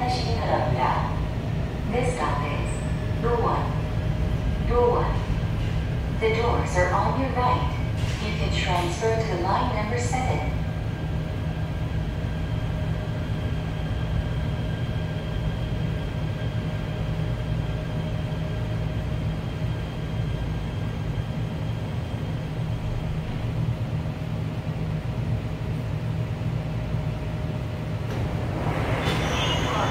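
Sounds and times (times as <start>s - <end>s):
subway train interior rumble: 0.0s - 29.9s.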